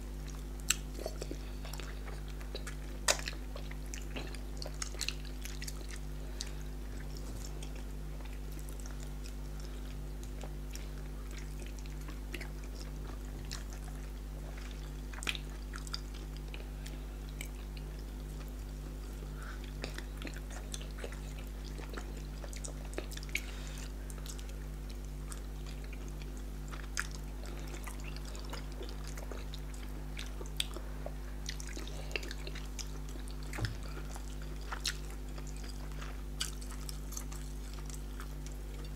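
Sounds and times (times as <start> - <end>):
steady low hum: 0.0 - 38.9
soft chewing: 0.1 - 38.9.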